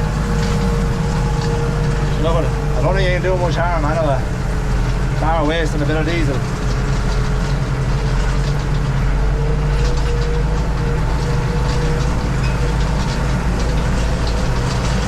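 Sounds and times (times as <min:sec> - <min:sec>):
faint steady whine: 0:00.0 - 0:15.0
tractor engine running under load: 0:00.0 - 0:15.0.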